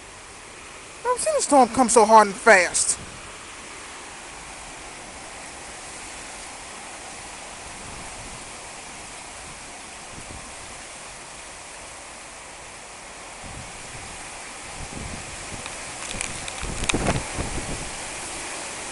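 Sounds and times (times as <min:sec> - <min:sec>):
heavy rain hissing: 0:00.0 - 0:18.9
strong wind: 0:00.0 - 0:18.9.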